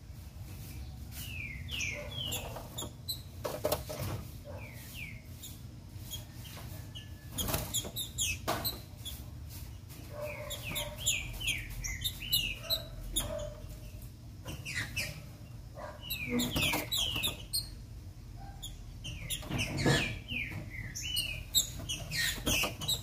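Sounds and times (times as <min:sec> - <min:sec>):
bird chirping: 0:00.6 - 0:03.4, 0:04.5 - 0:23.0.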